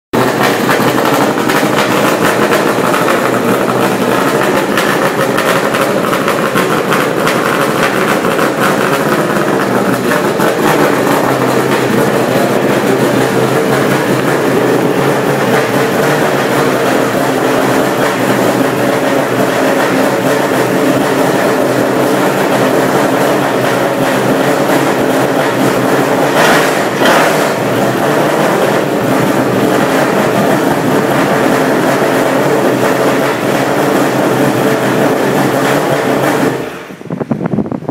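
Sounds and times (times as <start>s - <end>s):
race car engine idling: 0.1s - 37.9s.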